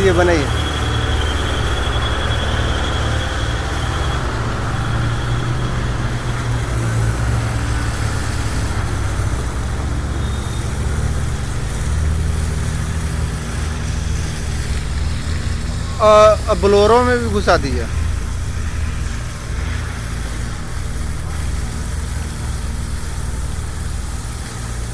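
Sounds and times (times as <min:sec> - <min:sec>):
pressure washer pump hum: 0:00.0 - 0:24.9
water jet hissing: 0:00.0 - 0:24.9.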